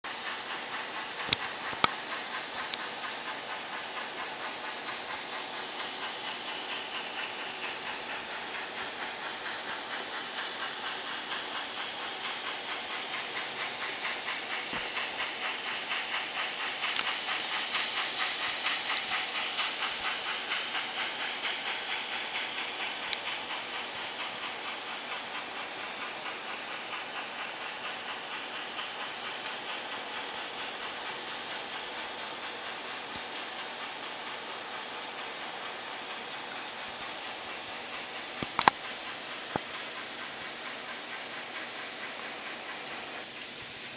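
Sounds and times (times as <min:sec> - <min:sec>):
model train steam chuff: 0:00.1 - 0:43.9.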